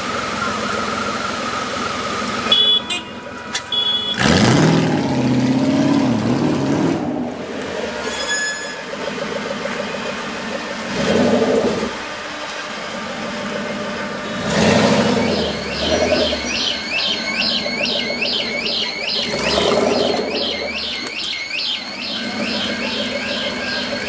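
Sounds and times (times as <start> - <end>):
car alarm wailing: 0.4 - 4.6, 8.0 - 24.0
car engine revving: 4.1 - 24.0.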